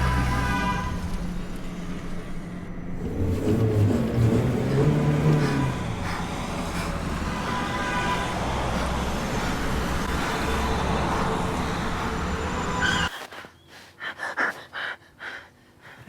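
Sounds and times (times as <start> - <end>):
car engine and road rumble: 0.0 - 13.1.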